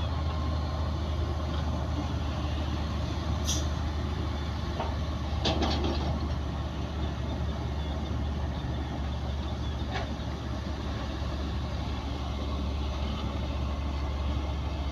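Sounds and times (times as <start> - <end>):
heavy diesel engine idling: 0.0 - 14.9.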